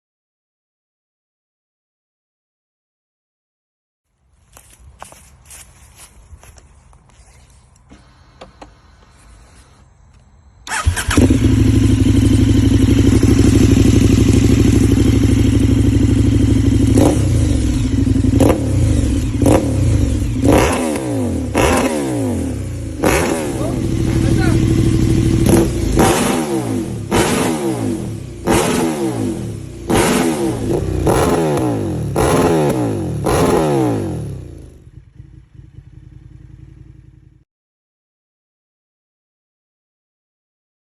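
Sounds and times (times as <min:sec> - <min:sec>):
motorcycle engine idling and revving: 0:04.1 - 0:37.5.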